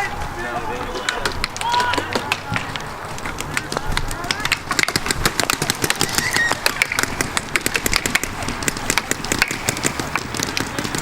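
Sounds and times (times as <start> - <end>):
paintball markers firing: 0.9 - 11.0.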